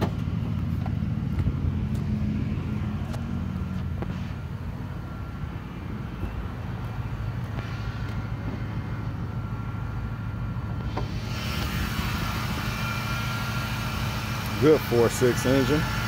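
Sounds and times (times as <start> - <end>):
car engine idling: 0.0 - 16.0
engine whir and hiss: 0.0 - 16.0.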